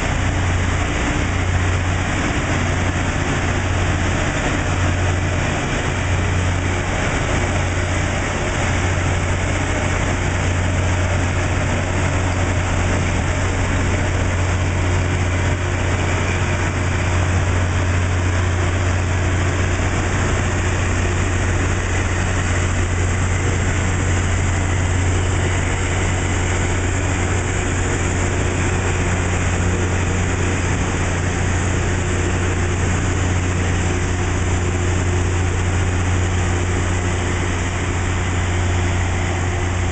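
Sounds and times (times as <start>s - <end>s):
rail grinder train grinding rail: 0.0s - 39.9s.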